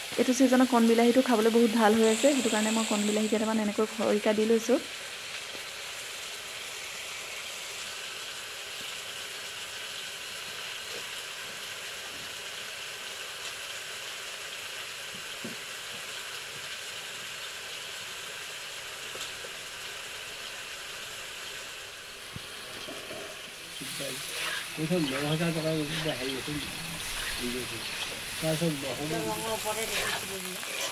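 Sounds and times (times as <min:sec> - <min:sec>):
chicken sizzling in oil: 0:00.0 - 0:30.9.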